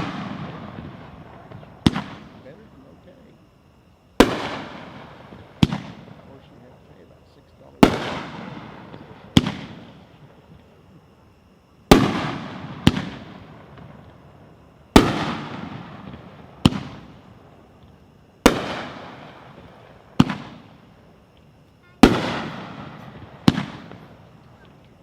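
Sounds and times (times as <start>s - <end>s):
fireworks bangs echoing: 0.0s - 3.3s, 4.2s - 10.6s, 11.8s - 21.0s, 21.8s - 25.0s.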